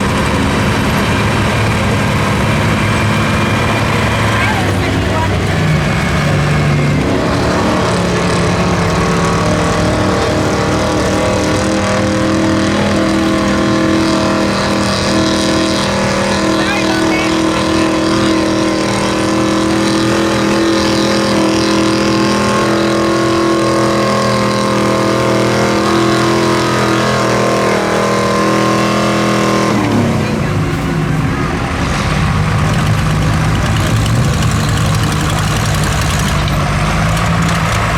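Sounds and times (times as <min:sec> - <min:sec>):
truck engine revving hard: 0:00.0 - 0:37.9.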